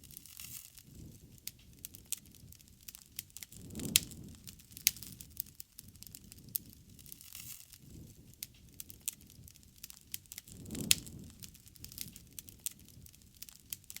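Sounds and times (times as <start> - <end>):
low rush of flame: 0.0 - 14.0
wood fire crackling: 0.0 - 14.0.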